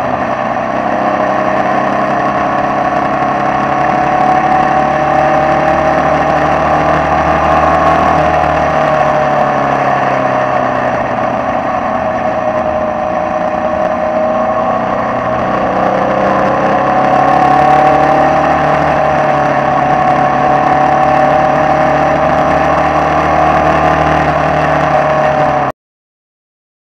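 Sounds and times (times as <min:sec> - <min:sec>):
racing car engine at speed: 0:00.0 - 0:25.7.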